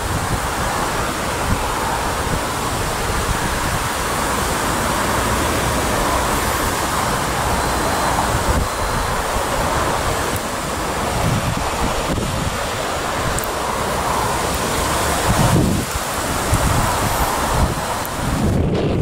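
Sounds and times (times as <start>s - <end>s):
rushing wind: 0.0s - 19.0s
wind buffeting microphone: 0.0s - 19.0s.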